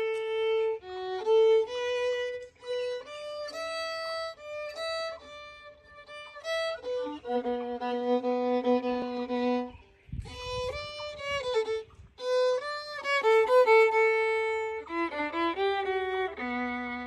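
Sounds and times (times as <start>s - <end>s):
solo violin melody: 0.0s - 17.0s.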